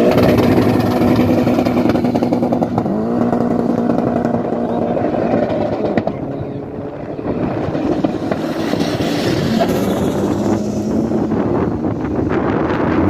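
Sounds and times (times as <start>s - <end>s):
drag racing car engines: 0.0s - 13.0s
wind buffeting microphone: 0.0s - 13.0s.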